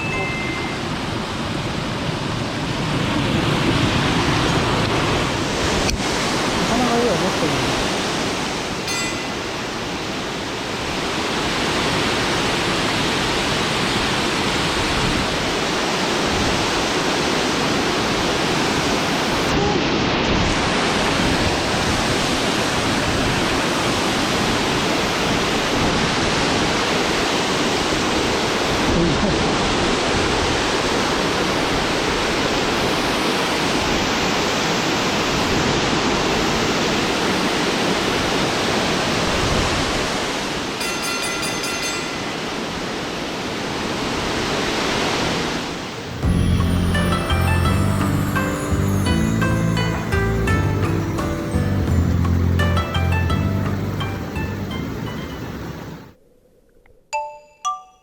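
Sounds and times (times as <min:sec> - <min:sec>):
stream water rushing: 0:00.0 - 0:56.1.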